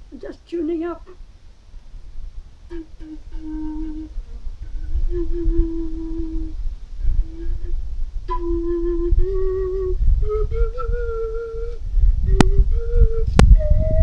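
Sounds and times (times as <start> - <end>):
metal pipe flute notes: 2.6 - 14.0.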